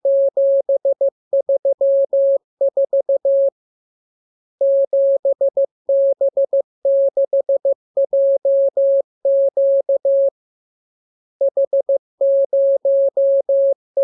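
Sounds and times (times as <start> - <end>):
morse code beeps: 0.0 - 3.5, 4.6 - 10.3, 11.4 - 14.0.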